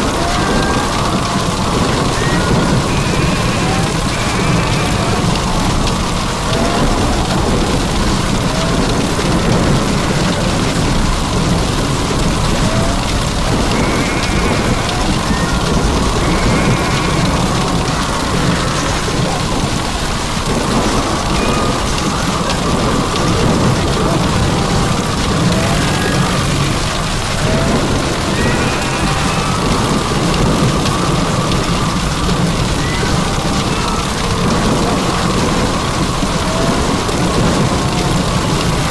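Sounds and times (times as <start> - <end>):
deep continuous rumble: 0.0 - 38.9
heavy rain pouring: 0.0 - 38.9.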